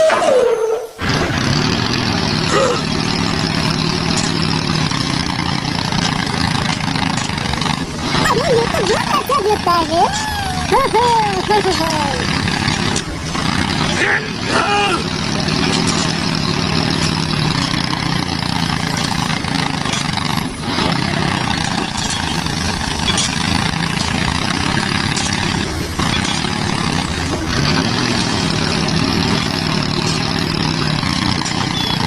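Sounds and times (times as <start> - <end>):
tractor engine running: 1.0 - 32.0.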